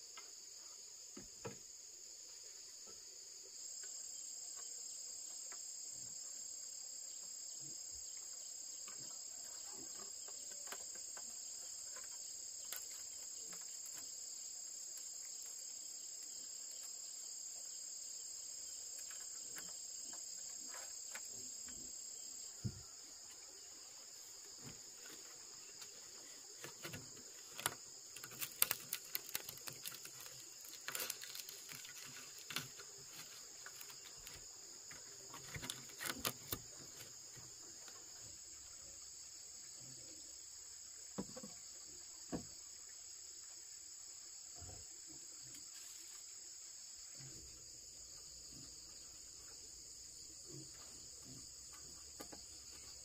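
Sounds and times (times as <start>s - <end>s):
insect chorus: 0.0s - 53.0s.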